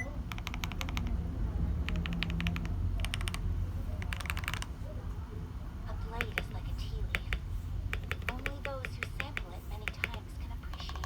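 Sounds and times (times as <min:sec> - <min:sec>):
typing on mechanical keyboard: 0:00.0 - 0:01.2, 0:01.8 - 0:04.7, 0:06.2 - 0:11.0.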